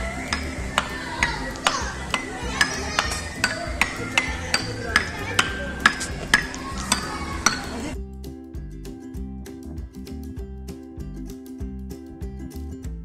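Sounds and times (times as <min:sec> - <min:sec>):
background music with beat: 0:00.0 - 0:13.0
wooden xylophone notes: 0:00.0 - 0:13.0.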